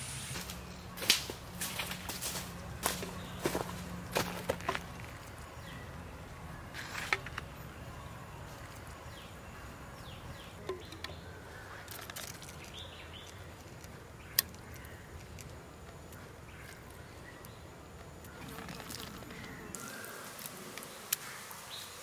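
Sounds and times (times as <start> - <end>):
steady low hum: 0.0 - 21.4
insects buzzing: 0.0 - 22.0.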